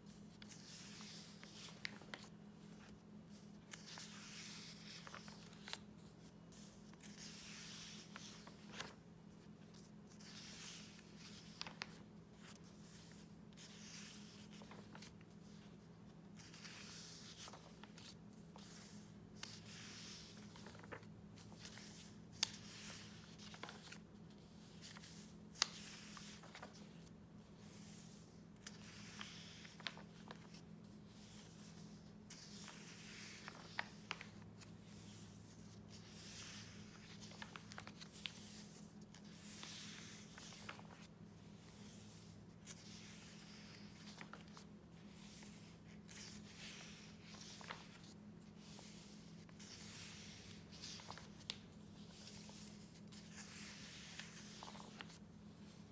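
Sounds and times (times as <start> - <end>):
paper pages turning: 0.1 - 55.8.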